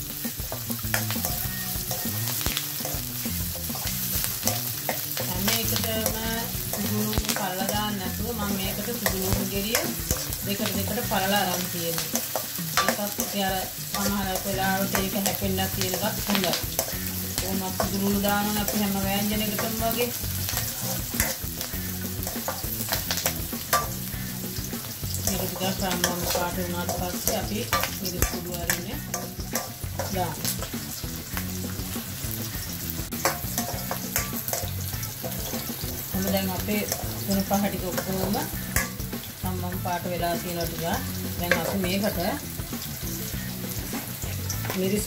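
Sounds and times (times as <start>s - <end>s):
vegetables sizzling in hot oil: 0.0s - 45.0s
spatula scraping metal wok: 0.1s - 45.0s.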